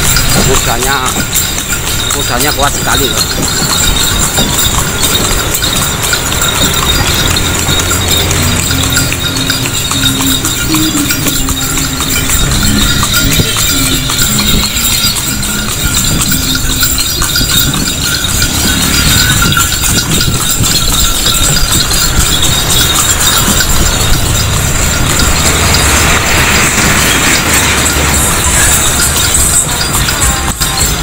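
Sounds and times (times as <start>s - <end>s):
horse hooves clip-clopping: 0.0s - 31.0s.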